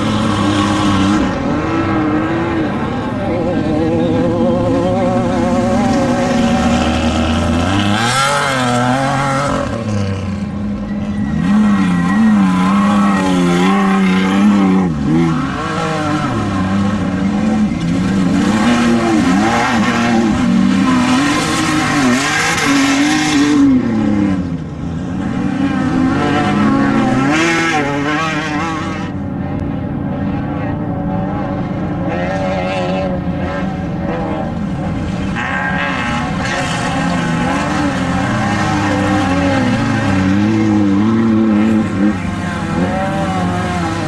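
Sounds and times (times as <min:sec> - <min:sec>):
engine revving: 0:00.0 - 0:29.2, 0:30.2 - 0:44.0.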